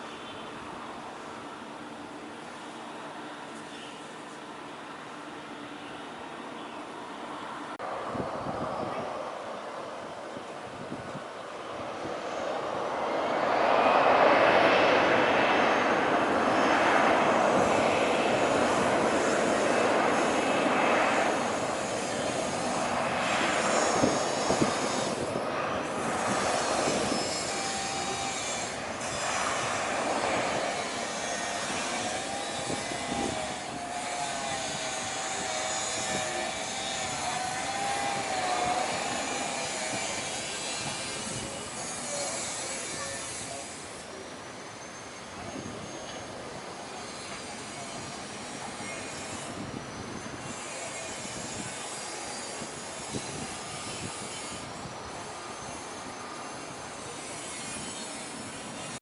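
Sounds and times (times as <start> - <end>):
jet engines roaring: 7.5 - 59.0.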